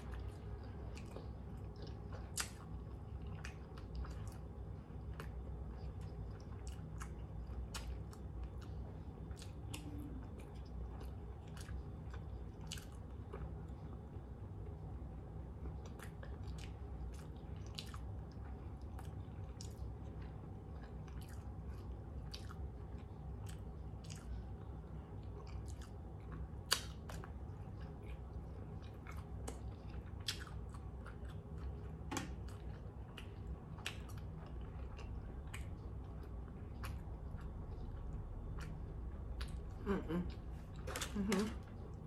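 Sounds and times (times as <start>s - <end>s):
person chewing with wet smacks: 0.0s - 42.0s
steady low hum: 0.0s - 42.0s.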